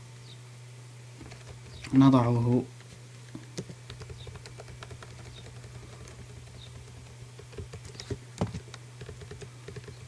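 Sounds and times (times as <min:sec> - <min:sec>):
keyboard keys tapping: 0:01.2 - 0:10.0.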